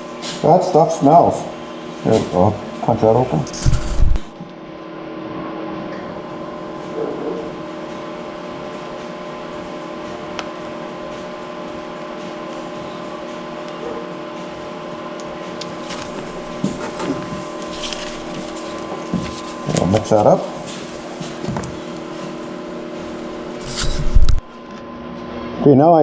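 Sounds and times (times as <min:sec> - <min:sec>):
machine hum with fixed tones: 0:02.6 - 0:25.7.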